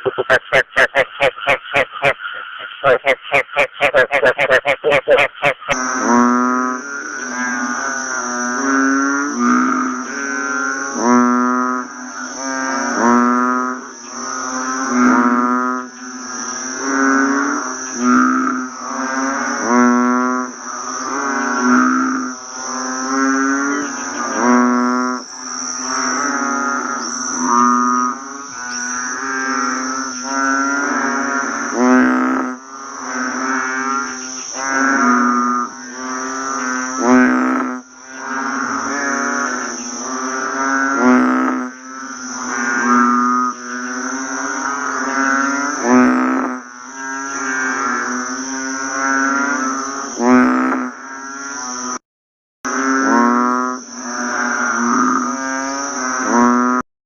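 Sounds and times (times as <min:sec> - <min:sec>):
high-pitched insect chorus: 0:00.0 - 0:04.6, 0:05.7 - 0:50.2, 0:51.0 - 0:52.0, 0:52.7 - 0:56.3
frogs croaking: 0:00.0 - 0:52.0, 0:52.7 - 0:56.8.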